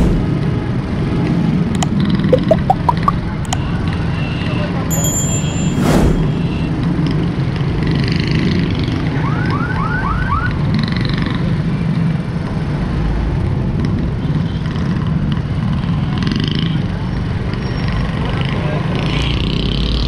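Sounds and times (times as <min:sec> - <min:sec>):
city road traffic: 0:00.0 - 0:20.0.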